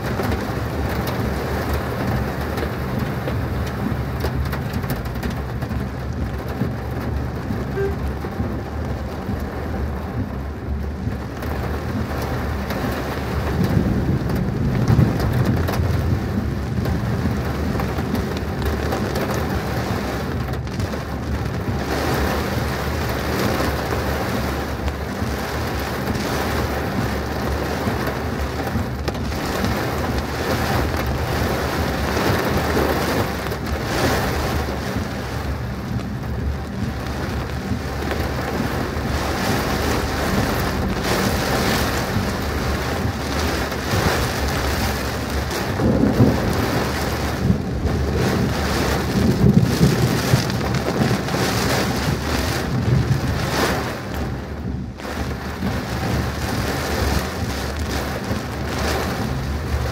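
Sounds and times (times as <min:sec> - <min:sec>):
deep rumble: 0:00.0 - 0:59.9
heavy rain on a car: 0:00.0 - 0:59.9.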